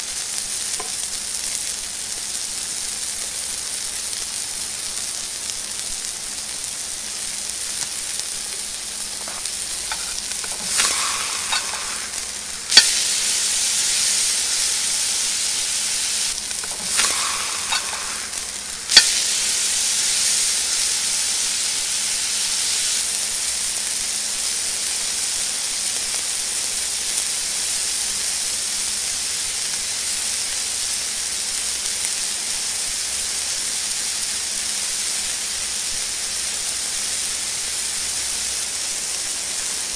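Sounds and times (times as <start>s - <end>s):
steak sizzling in a pan: 0.0s - 39.9s.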